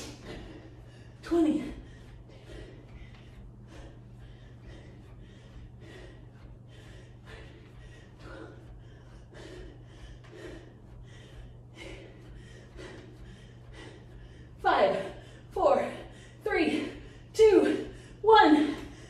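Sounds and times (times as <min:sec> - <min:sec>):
steady low hum: 0:00.0 - 0:19.0
woman breathing hard: 0:00.0 - 0:19.0.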